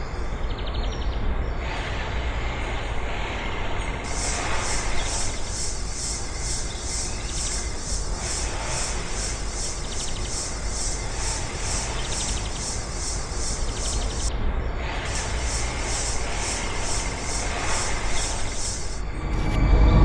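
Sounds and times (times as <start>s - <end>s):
steady hiss with high pulsing: 1.4s - 20.0s.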